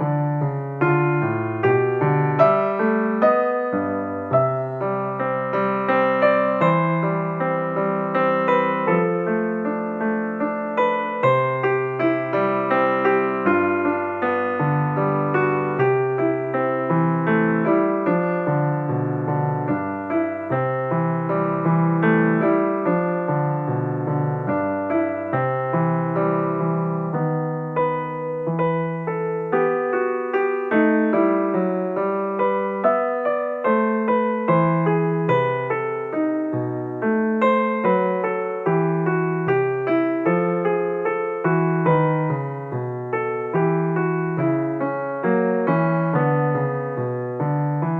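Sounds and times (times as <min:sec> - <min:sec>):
gentle piano music: 0:00.0 - 0:47.9.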